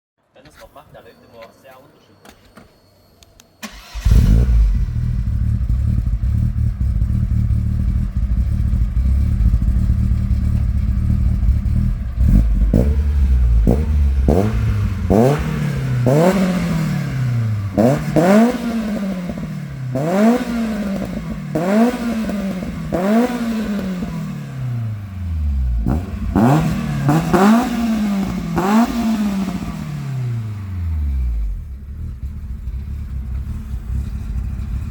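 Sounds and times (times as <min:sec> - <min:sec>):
car engine idling: 0:03.6 - 0:34.9
engine revving in throttle blips: 0:03.6 - 0:34.9.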